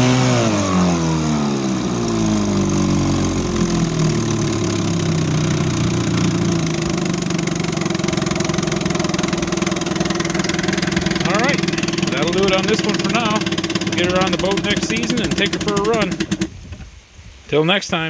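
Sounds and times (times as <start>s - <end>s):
outboard motor running: 0.0s - 16.8s.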